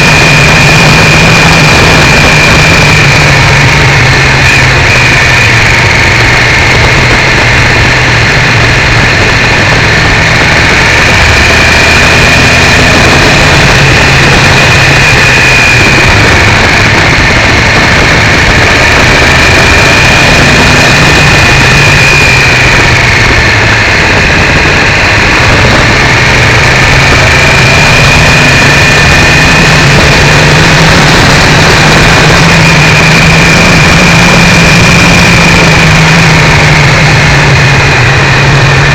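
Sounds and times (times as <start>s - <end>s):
loud wind rush: 0.0s - 38.9s
motorcycle engine running: 0.0s - 38.9s.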